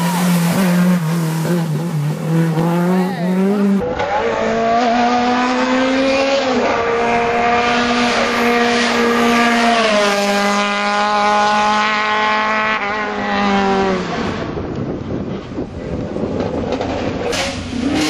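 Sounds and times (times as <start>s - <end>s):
rally car engine passing: 0.0s - 14.6s.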